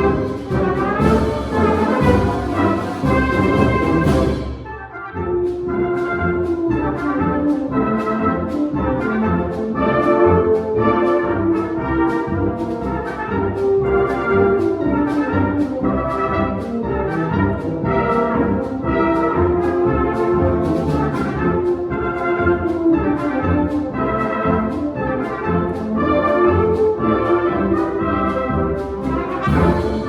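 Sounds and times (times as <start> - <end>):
brass music over steady beat: 0.0 - 30.0.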